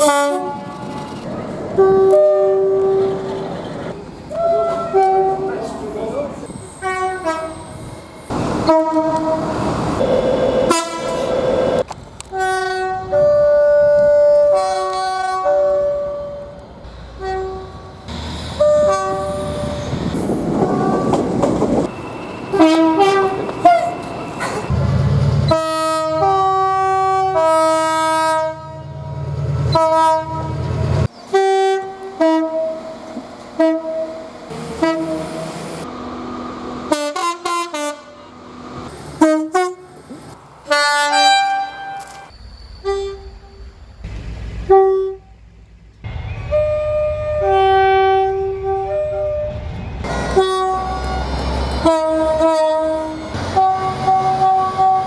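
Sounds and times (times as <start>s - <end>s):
train horn blasts: 0.0s - 3.4s, 4.3s - 16.5s, 17.1s - 21.9s, 22.5s - 40.0s, 40.7s - 43.6s, 44.6s - 45.4s, 46.1s - 55.0s
train rumbling: 0.0s - 55.0s.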